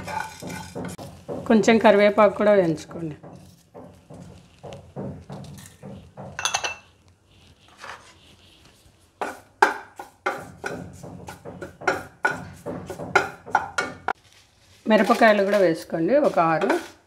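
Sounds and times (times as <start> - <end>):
wooden spatula scraping pan: 0.0 - 17.0.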